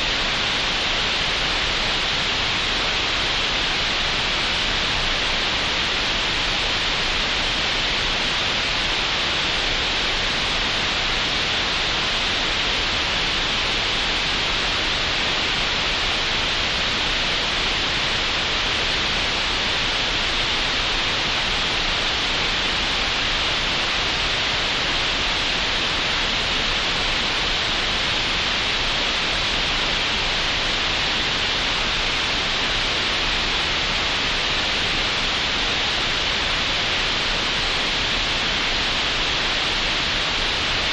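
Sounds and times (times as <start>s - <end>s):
steady synthesized hiss: 0.0s - 40.9s.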